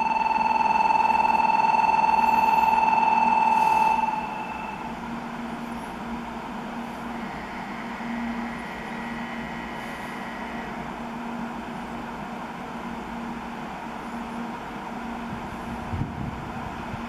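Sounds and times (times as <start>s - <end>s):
train equipment hum and whir: 0.0s - 17.0s.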